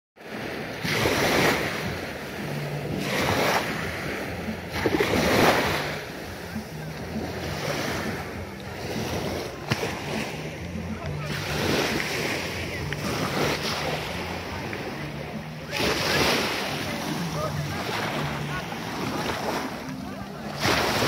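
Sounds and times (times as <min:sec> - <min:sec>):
small waves washing ashore: 0:00.2 - 0:21.0.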